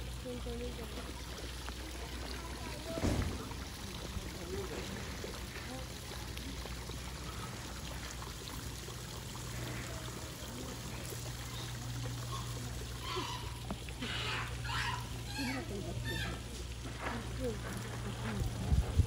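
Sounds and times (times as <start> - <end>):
water pouring into a pond: 0.0 - 19.0.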